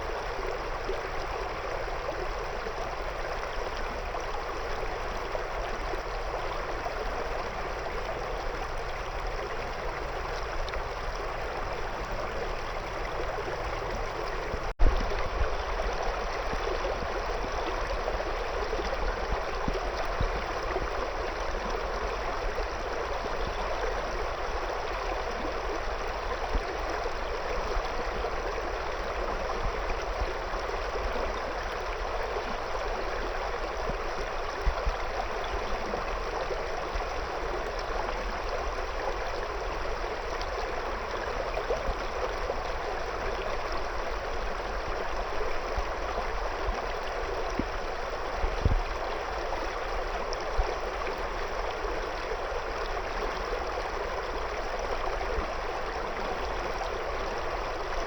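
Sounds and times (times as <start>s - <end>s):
river water babbling around stones: 0.0s - 58.0s.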